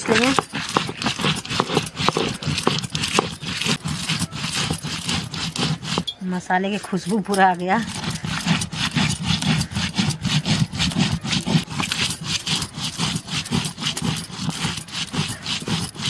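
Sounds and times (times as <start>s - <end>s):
stone grinding on stone: 0.0s - 16.0s.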